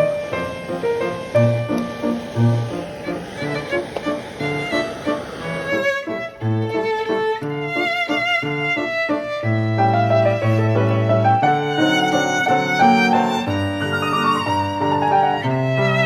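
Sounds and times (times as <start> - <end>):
violin melody with vibrato: 0.0 - 16.0.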